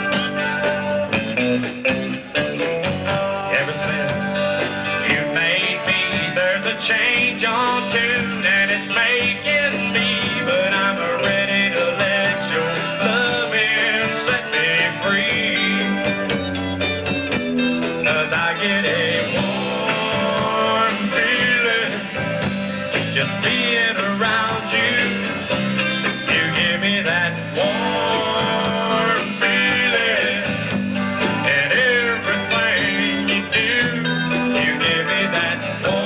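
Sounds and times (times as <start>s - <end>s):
country-rock band playing: 0.0s - 36.0s.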